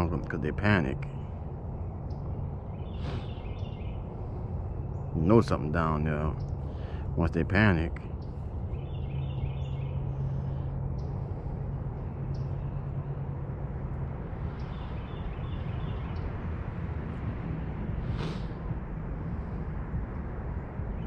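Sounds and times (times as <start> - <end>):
low rumble with faint hum: 0.0 - 21.0.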